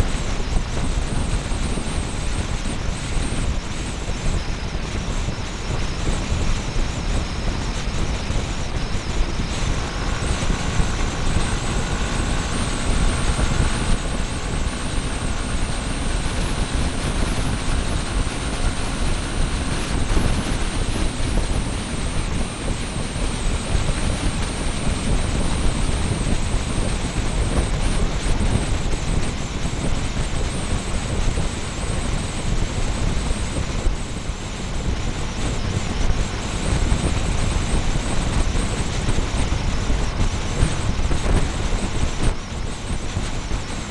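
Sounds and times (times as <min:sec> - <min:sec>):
road noise: 0:00.0 - 0:43.9
wind rumble on microphone: 0:00.0 - 0:43.9.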